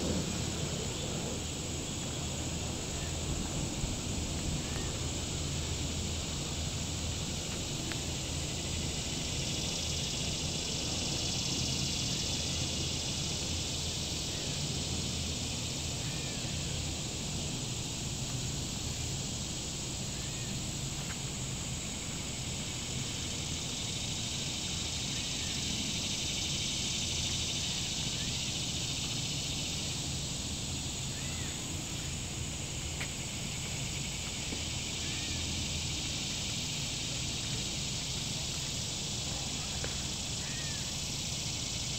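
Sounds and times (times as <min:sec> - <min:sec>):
steady high hiss: 0:00.0 - 0:41.9.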